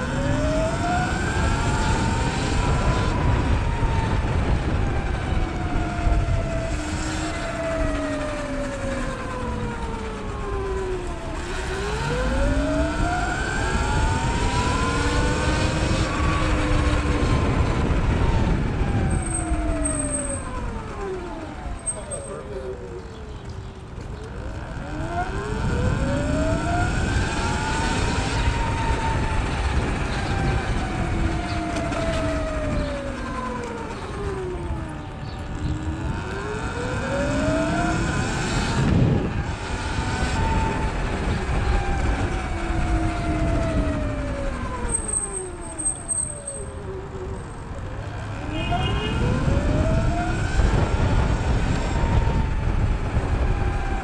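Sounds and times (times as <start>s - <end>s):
emergency siren wailing: 0.0s - 54.0s
traffic rumble: 0.0s - 54.0s
wind: 0.0s - 54.0s.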